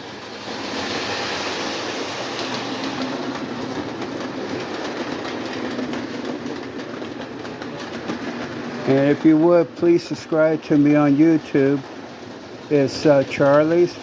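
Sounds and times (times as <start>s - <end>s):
toy train running on track: 0.0s - 14.0s.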